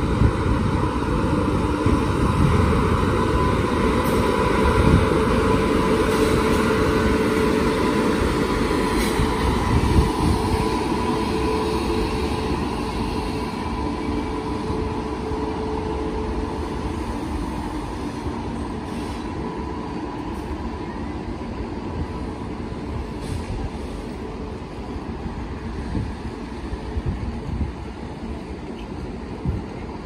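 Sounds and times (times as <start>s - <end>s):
locomotive whine: 0.0s - 27.6s
train wheels rumbling on rail: 0.0s - 30.0s.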